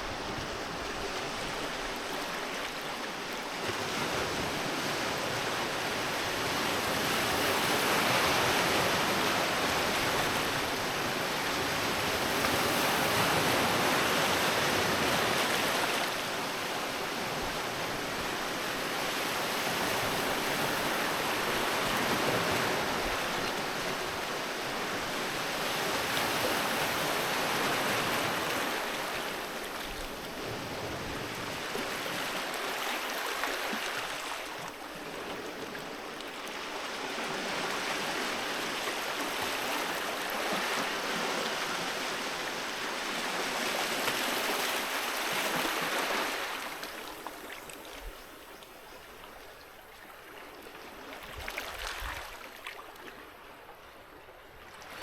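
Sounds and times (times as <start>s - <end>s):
sea waves washing onto beach: 0.0s - 48.3s.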